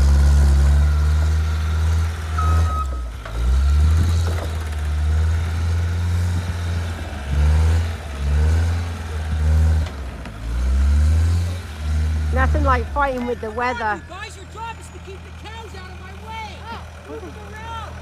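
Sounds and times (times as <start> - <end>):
vehicle engine running under load: 0.0 - 18.0.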